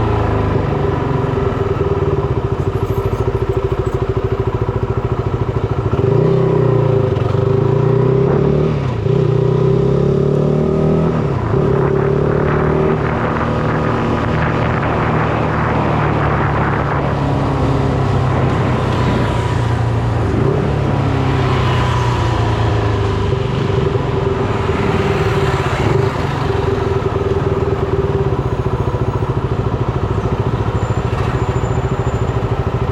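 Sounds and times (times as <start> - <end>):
motorcycle engine revving: 0.0 - 32.9
wind and road noise: 0.0 - 32.9.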